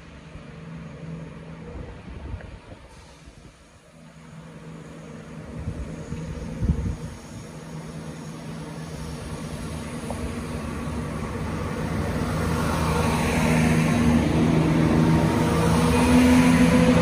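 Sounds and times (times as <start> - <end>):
diesel train engines droning: 0.0 - 17.0
train wheel and rail noise: 0.0 - 17.0.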